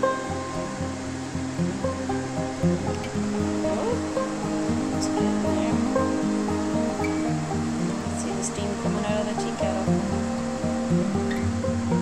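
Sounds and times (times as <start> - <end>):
background music with sustained notes: 0.0 - 12.0
steady rushing hiss: 0.0 - 12.0.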